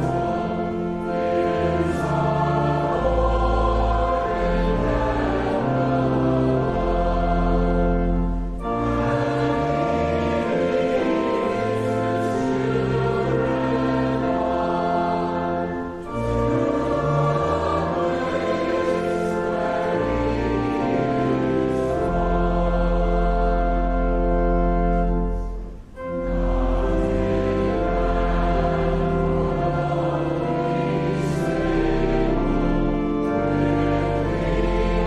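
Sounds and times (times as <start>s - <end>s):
choir singing a hymn: 0.0s - 35.0s
instrumental accompaniment: 0.0s - 35.0s.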